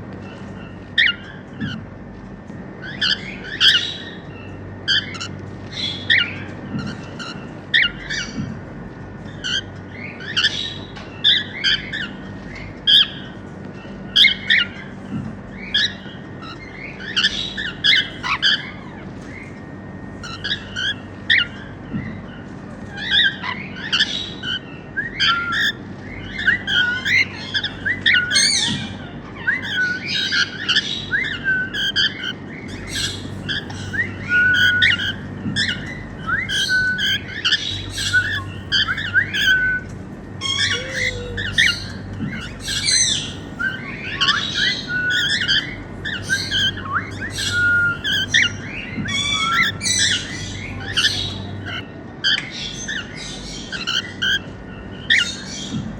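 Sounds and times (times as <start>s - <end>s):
faint low hum: 0.0s - 55.9s
cockatiels chirping and squawking: 0.3s - 1.8s, 2.8s - 8.5s, 9.2s - 13.4s, 14.0s - 55.8s.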